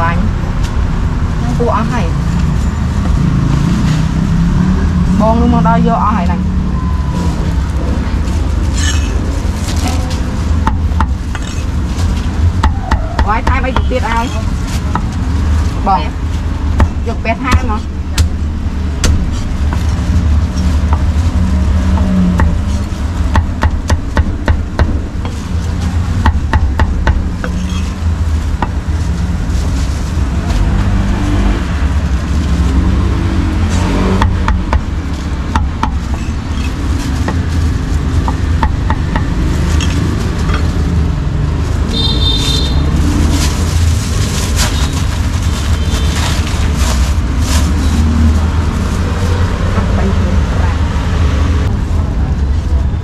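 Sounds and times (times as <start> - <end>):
low rumble of street traffic: 0.0 - 53.0.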